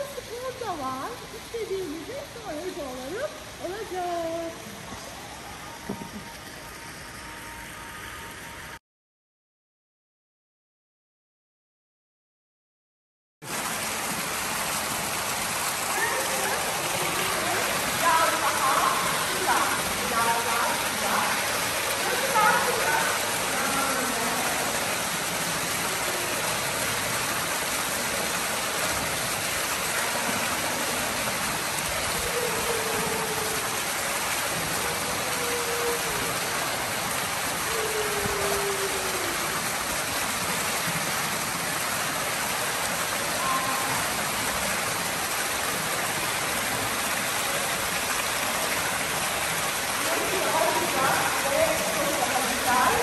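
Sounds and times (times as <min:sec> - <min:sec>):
rushing water hiss: 0:00.0 - 0:08.8, 0:13.4 - 0:53.0.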